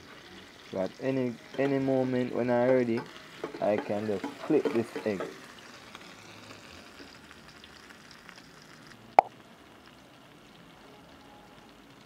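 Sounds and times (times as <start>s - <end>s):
omelette sizzling in a pan: 0.0s - 12.0s.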